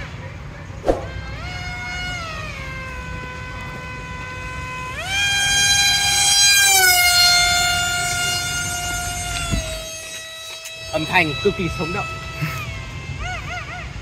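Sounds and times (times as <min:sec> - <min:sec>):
model jet whine: 0:00.0 - 0:14.0.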